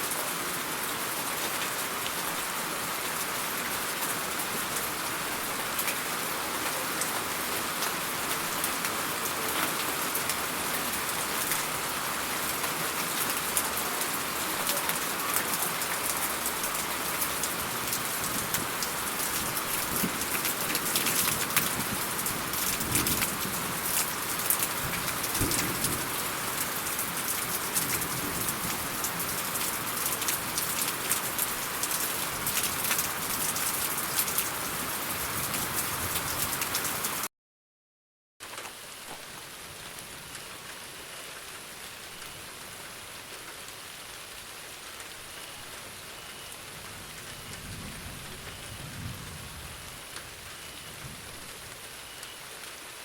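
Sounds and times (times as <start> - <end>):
heavy rain drops hitting surface: 0.0 - 37.3, 38.4 - 53.0
soft steady rain: 0.0 - 37.3, 38.4 - 53.0.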